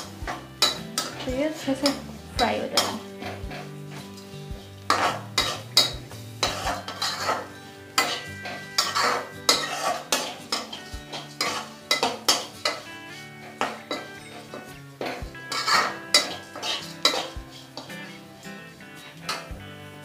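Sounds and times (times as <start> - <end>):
spatula scraping a pan: 0.0 - 19.5
rice frying in oil: 0.0 - 20.0.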